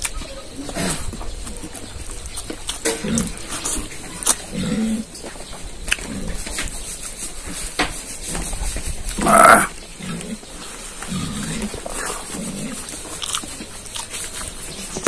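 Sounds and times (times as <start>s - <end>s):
man chewing food: 0.0s - 7.5s, 9.1s - 15.0s.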